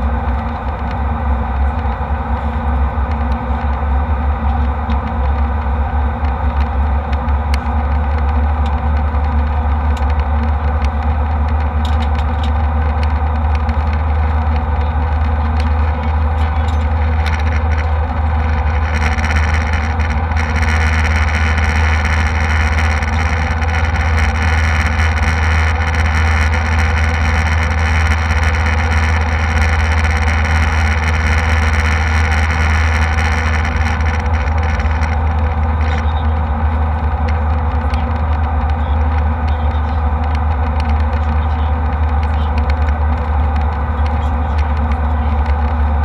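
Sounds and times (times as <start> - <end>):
airflow roar: 0.0 - 46.0
jet engine drone: 0.0 - 46.0.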